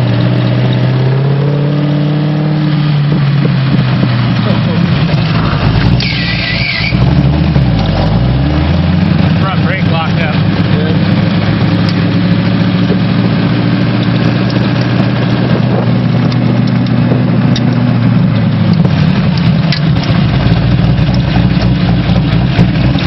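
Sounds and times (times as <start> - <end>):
deep engine rumble: 0.0 - 23.0
vehicle engine running: 0.0 - 23.0.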